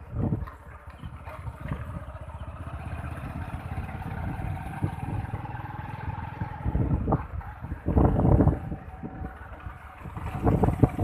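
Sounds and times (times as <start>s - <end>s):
low road rumble: 0.0s - 11.0s
motorbike engine running: 0.0s - 11.0s.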